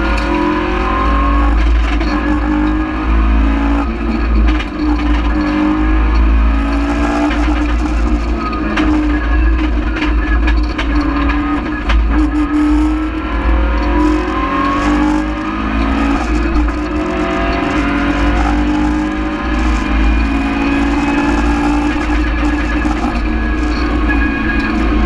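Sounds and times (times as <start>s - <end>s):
rally car engine revving: 0.0s - 25.0s
road and tyre rumble: 0.0s - 25.0s.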